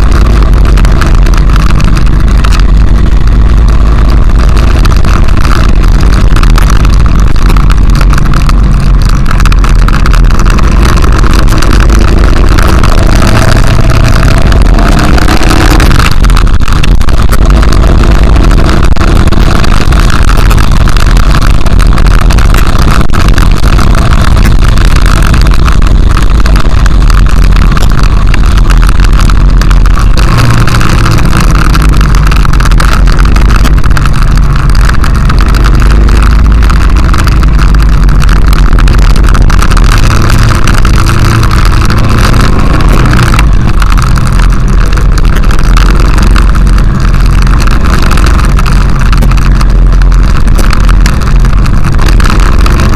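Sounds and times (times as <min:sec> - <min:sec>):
motorcycle engine running: 0:00.0 - 0:52.9
wind rumble on microphone: 0:00.0 - 0:52.9.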